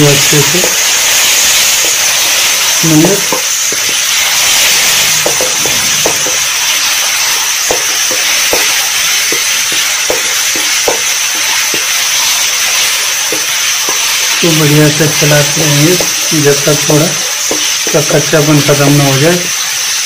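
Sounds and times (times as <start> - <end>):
oil sizzling in a pan: 0.0 - 20.0
spatula scraping a pan: 0.2 - 18.7.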